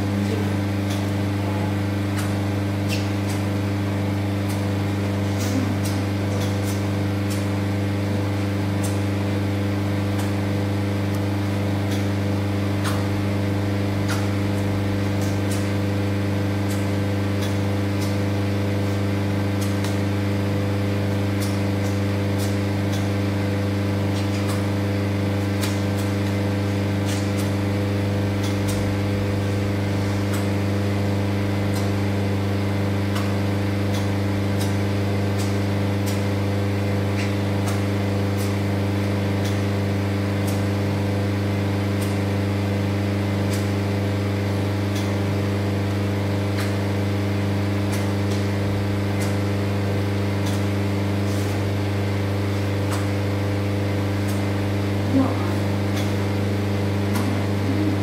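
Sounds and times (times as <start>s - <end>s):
vacuum pump electric hum: 0.0s - 58.0s.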